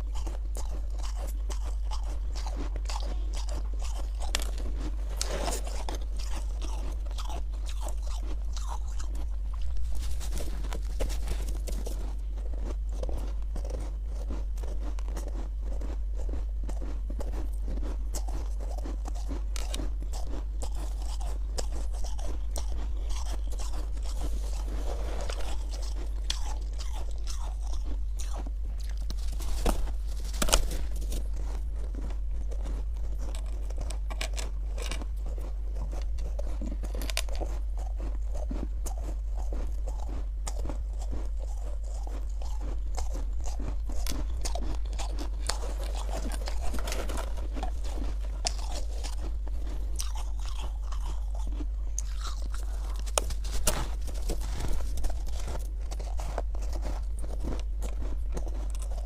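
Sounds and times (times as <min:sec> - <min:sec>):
frost crunching as chewed: 0:00.0 - 0:59.0
steady low hum: 0:00.0 - 0:59.0.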